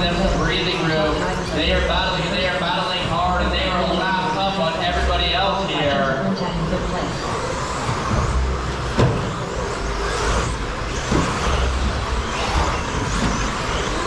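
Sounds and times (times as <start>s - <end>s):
electric rc trucks racing: 0.0s - 14.0s.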